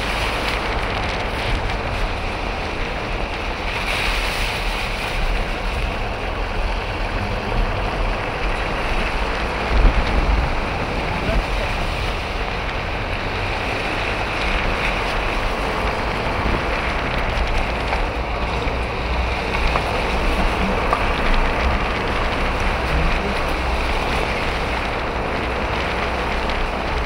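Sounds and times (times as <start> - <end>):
car engine: 0.0 - 27.0
tyre noise on rough road: 0.0 - 27.0
wind noise: 0.0 - 27.0.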